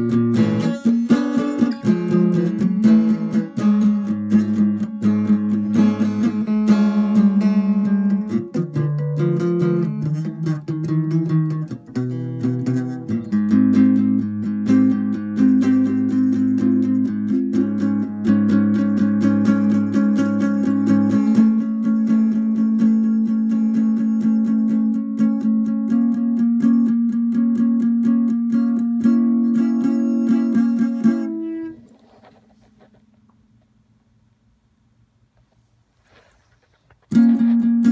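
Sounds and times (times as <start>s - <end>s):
acoustic guitar strumming: 0.0s - 33.0s, 37.0s - 37.9s.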